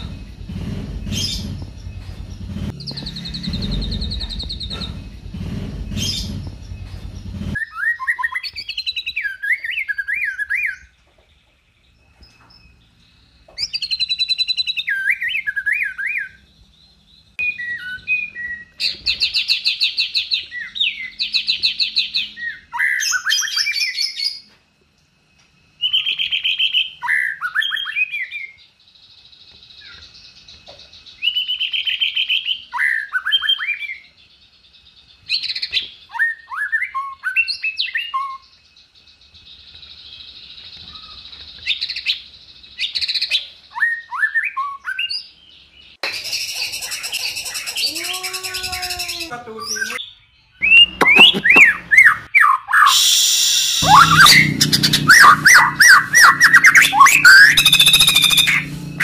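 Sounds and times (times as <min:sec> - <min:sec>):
songbird singing trills and whistles: 0:01.0 - 0:05.2, 0:05.9 - 0:11.0, 0:11.9 - 0:24.5, 0:25.8 - 0:59.0.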